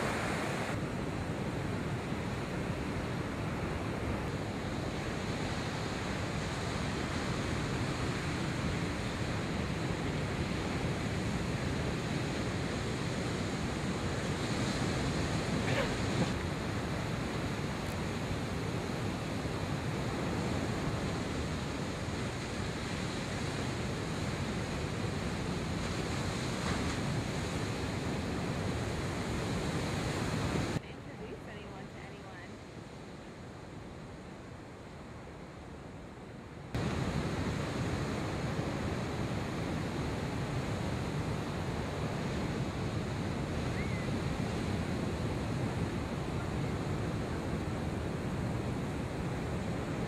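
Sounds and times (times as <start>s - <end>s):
ocean waves breaking: 0.0s - 50.0s.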